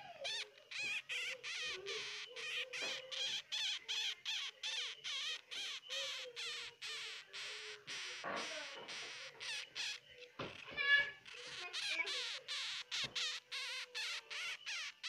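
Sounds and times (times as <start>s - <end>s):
baby hamster squeaking: 0.0s - 15.0s.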